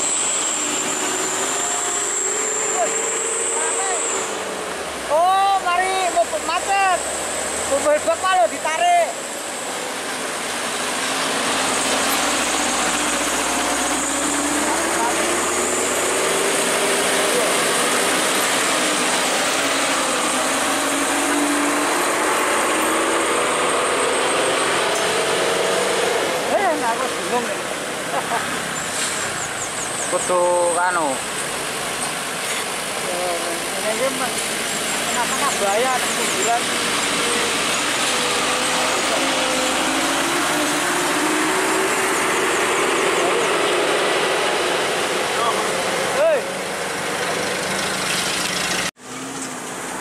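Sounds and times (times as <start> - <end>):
drone of queued trucks: 0.0 - 50.0
traffic engines humming: 0.0 - 50.0.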